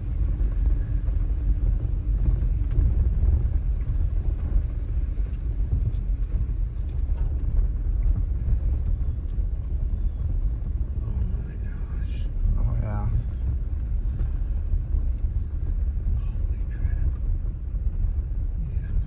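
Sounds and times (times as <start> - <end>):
vehicle driving rumble: 0.0 - 19.0.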